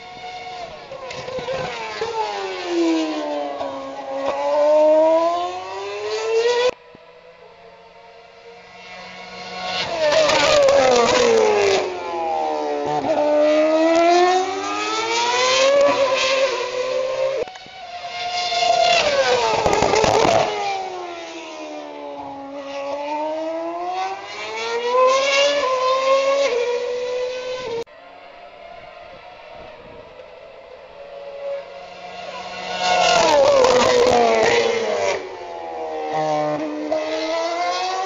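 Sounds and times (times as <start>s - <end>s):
racing cars passing: 0.0s - 38.0s.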